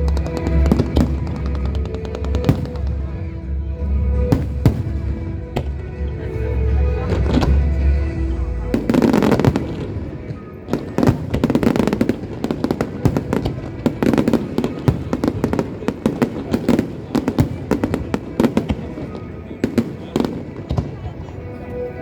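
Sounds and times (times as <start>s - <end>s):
fireworks bangs and crackles: 0.0s - 6.2s, 7.0s - 21.3s.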